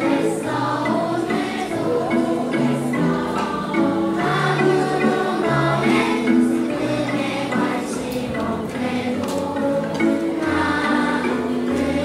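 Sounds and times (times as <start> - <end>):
choir singing: 0.0 - 12.0
keyboard accompaniment: 0.0 - 12.0.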